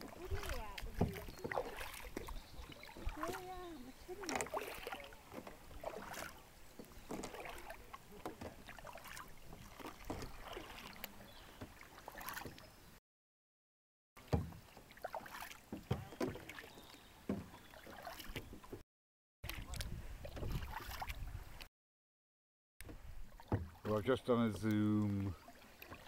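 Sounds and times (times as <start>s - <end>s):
water splashes and drips: 0.0s - 12.7s, 14.2s - 18.8s, 19.4s - 21.7s, 22.8s - 26.0s
canoe paddles in water: 0.0s - 13.0s, 14.2s - 18.8s, 19.4s - 21.7s, 22.8s - 26.0s.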